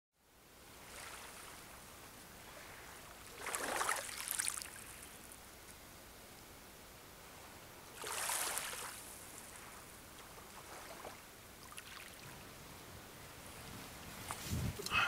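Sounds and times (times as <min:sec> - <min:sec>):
small waves washing ashore: 0:00.4 - 0:05.6, 0:07.1 - 0:15.0.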